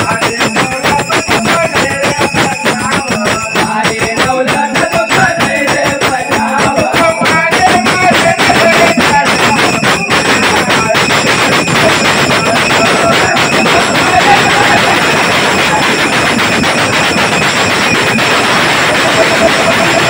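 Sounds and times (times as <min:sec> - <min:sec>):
barrel drum fast rhythm: 0:00.0 - 0:20.0
wavering melody line: 0:02.5 - 0:20.0.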